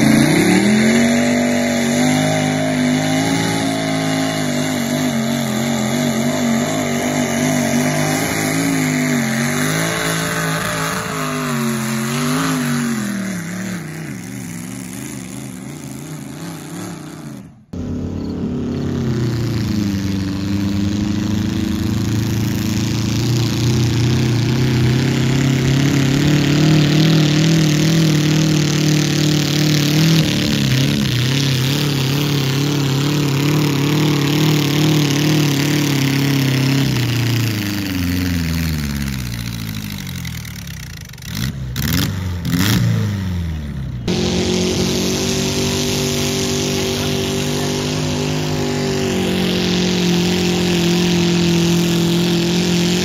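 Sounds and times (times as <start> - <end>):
pulling tractor engine at full throttle: 0.0 - 53.0
tractor engine at high revs: 0.0 - 53.0.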